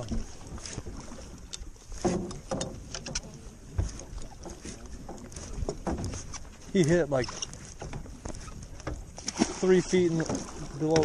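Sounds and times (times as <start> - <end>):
boat engine rumble: 0.0 - 11.0
water noise: 0.0 - 11.0.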